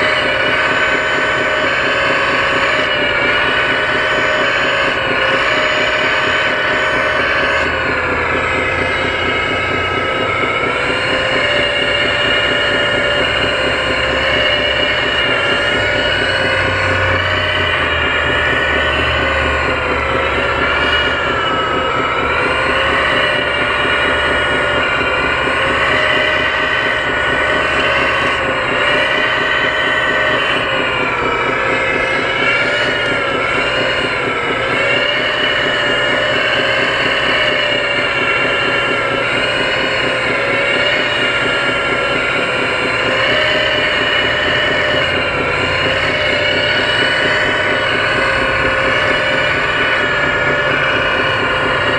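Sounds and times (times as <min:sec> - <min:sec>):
hydraulic pump whining: 0:00.0 - 0:51.9.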